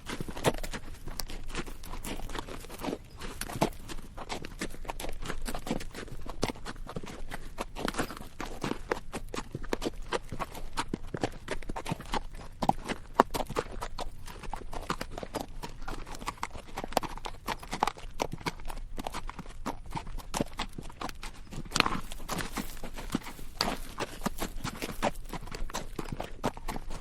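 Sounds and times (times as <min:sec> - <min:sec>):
hooves clopping on stones: 0:00.0 - 0:27.0.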